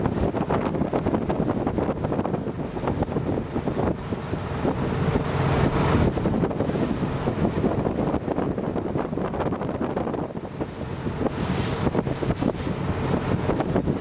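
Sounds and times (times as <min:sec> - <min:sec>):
ferry engine rumble: 0:00.0 - 0:14.0
wind buffeting microphone: 0:00.0 - 0:14.0.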